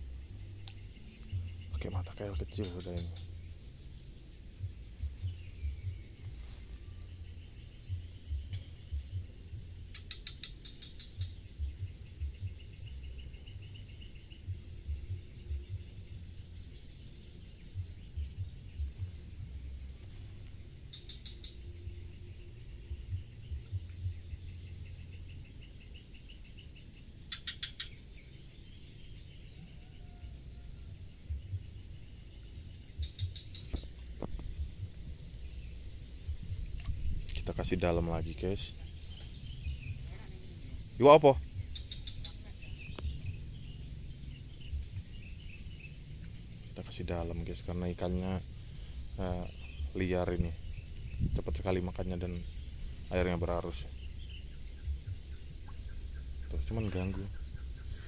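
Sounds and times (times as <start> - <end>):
rapid chirping trills: 0.0 - 30.2, 31.2 - 58.0
high-pitched insect drone: 0.0 - 58.0.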